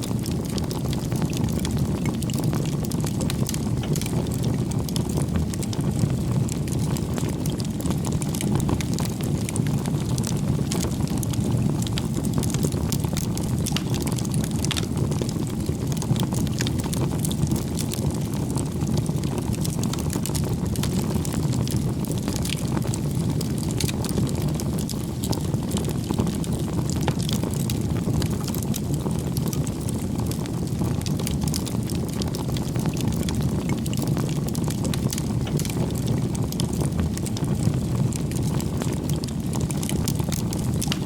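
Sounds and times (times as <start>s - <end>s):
bonfire flame rumble: 0.0s - 41.0s
firewood crackling and popping: 0.0s - 41.0s.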